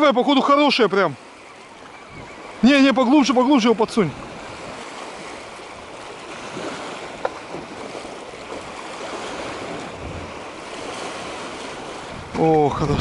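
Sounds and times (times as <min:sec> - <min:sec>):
waves splashing at shore: 0:00.0 - 0:13.0
wind buffeting microphone: 0:01.2 - 0:13.0.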